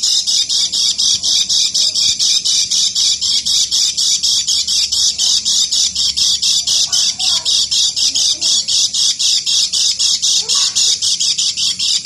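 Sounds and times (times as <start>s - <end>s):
bird rapid chirping song: 0.0s - 12.0s.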